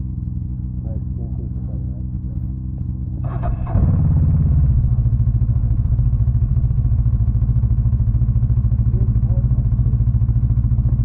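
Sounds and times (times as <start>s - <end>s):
another engine idling: 0.0s - 11.0s
snowmobile engine starting and idling: 0.4s - 11.0s.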